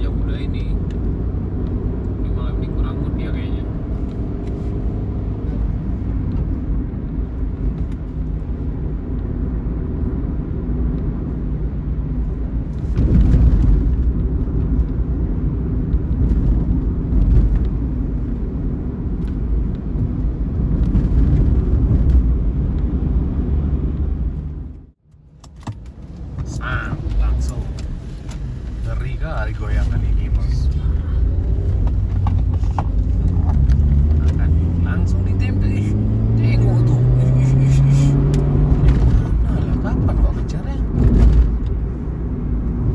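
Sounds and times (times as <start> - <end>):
bus engine and road rumble: 0.0 - 42.9.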